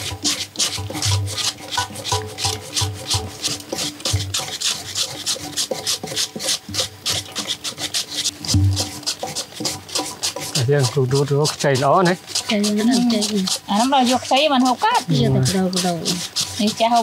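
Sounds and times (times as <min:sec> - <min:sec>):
knives scraping stems rhythmically: 0:00.0 - 0:17.0.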